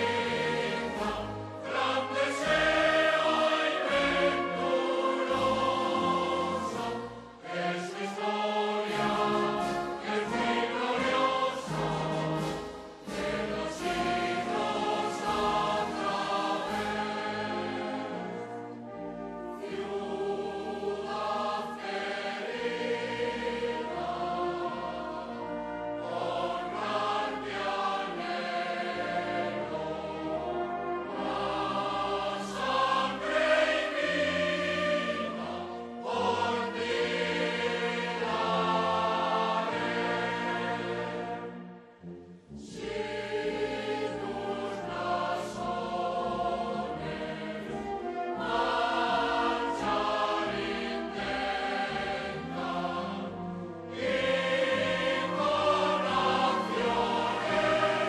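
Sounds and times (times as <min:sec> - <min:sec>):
choir singing with orchestra: 0:00.0 - 0:58.0.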